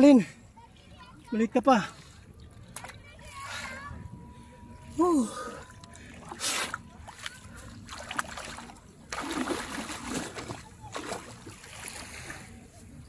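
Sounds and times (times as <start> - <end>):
person wading through water: 1.8 - 13.0.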